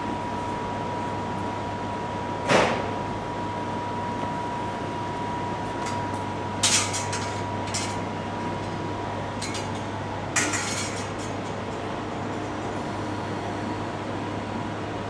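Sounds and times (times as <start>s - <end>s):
electric hum with high tone: 0.0s - 15.0s.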